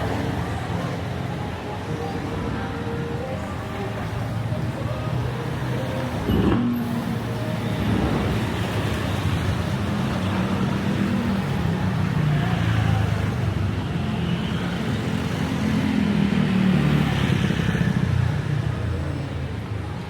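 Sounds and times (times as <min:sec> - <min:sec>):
cars and motorcycles passing: 0:00.0 - 0:20.0.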